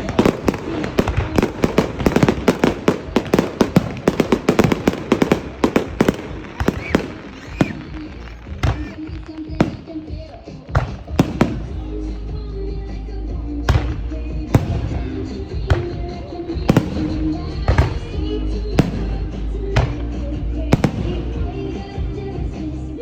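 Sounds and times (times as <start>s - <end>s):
fireworks bangs: 0.0s - 12.0s, 13.7s - 22.6s.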